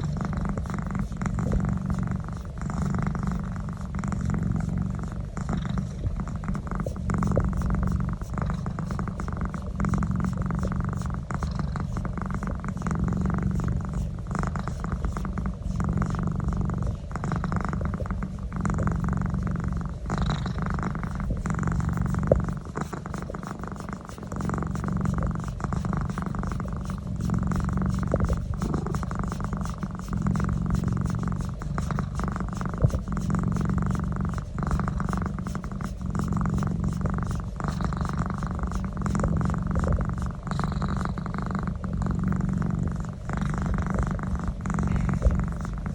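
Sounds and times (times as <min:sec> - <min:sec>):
cat purring: 0:00.0 - 0:45.9.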